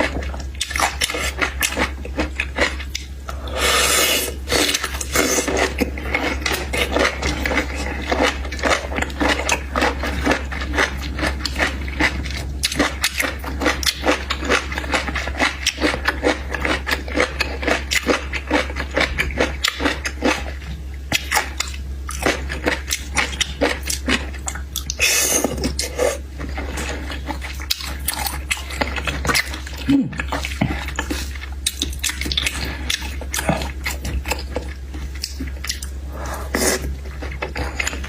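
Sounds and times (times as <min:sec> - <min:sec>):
person chewing and crunching: 0:00.0 - 0:38.0.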